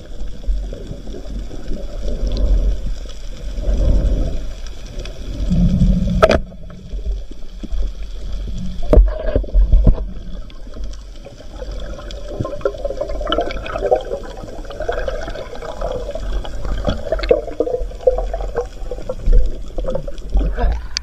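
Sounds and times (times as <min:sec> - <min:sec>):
low underwater rumble: 0:00.0 - 0:21.0
underwater rushing bubbling water: 0:00.0 - 0:21.0.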